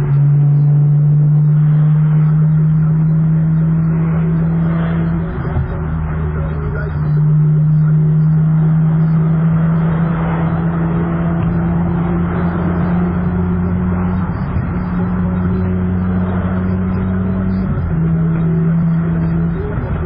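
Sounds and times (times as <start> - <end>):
car engine droning: 0.0 - 20.0
road and tyre noise: 0.0 - 20.0.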